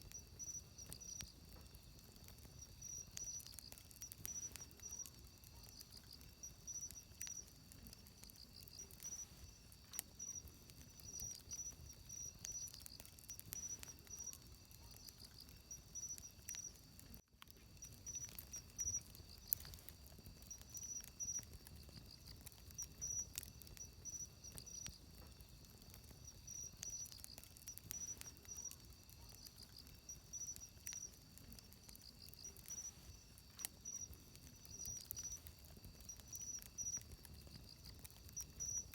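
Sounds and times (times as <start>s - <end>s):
campfire crackling and popping: 0.0s - 38.9s
insects chirping: 0.0s - 38.9s.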